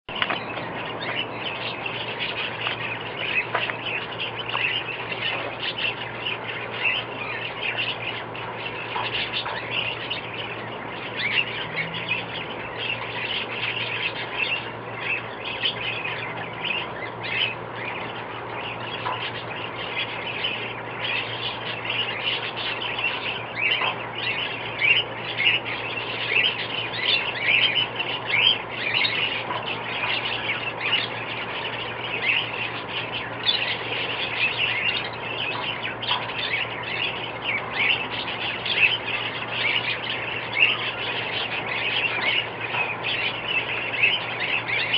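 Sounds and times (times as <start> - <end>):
flock of small birds chirping: 0.0 - 44.9
steady low hum: 0.1 - 44.9.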